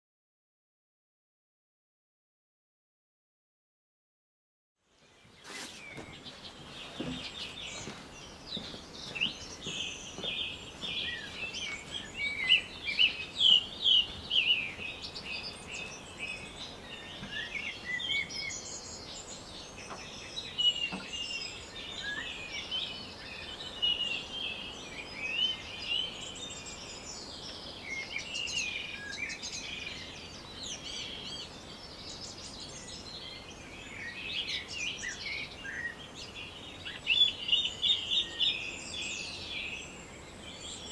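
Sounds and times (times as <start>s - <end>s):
soft outdoor hiss: 4.8s - 40.9s
birds singing and chirping: 5.0s - 40.9s.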